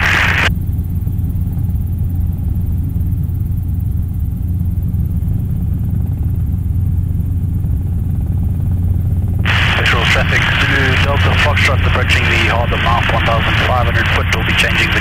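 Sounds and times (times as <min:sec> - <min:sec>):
helicopter engine and rotors droning: 0:00.0 - 0:15.0.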